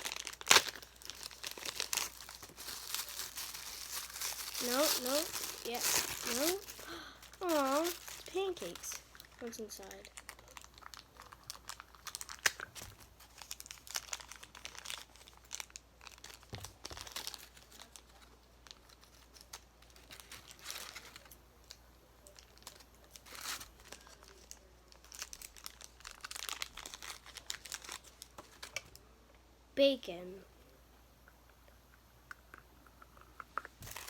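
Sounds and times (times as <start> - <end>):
packaging crinkling and tearing: 0.0 - 29.1, 33.6 - 34.0.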